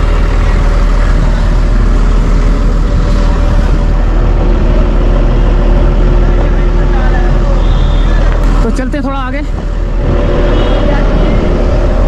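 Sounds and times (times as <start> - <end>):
diesel engine rumbling: 0.0 - 12.0
steady higher hum: 0.0 - 12.0.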